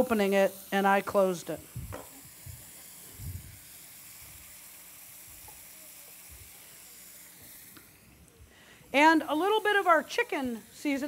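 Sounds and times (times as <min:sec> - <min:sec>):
chicken sizzling in skillet: 0:00.0 - 0:11.0.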